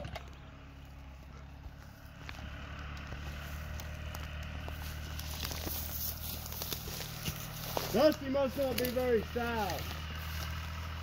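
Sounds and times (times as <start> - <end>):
engine running low: 0.0 - 11.0
footsteps crunching over twigs: 0.2 - 11.0.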